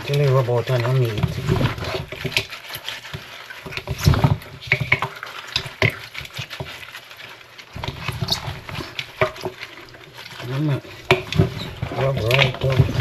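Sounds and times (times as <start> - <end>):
hands squishing raw meat: 0.0 - 13.0.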